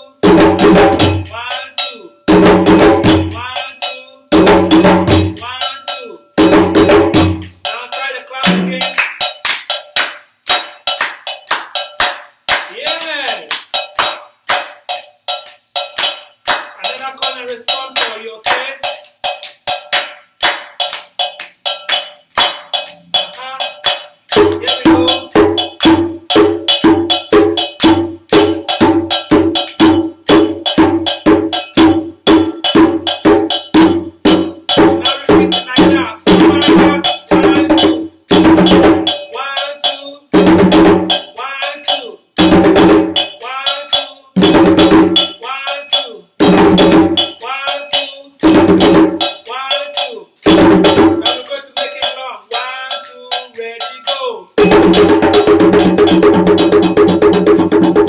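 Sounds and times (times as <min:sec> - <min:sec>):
group playing hand drums: 0:00.0 - 0:58.0.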